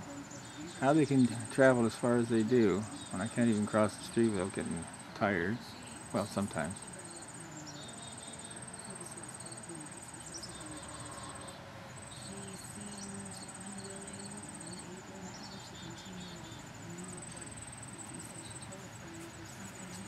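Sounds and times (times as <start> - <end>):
faint insect chirping: 0.0 - 20.0
faint low hum: 0.0 - 20.0
insects trilling: 0.0 - 20.0.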